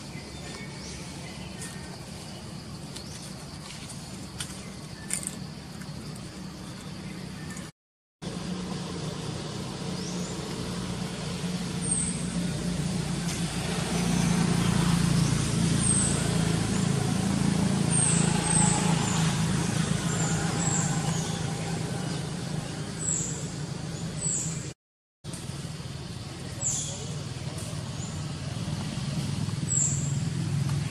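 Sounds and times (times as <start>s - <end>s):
vehicle engine running: 0.1s - 24.7s, 25.3s - 30.9s.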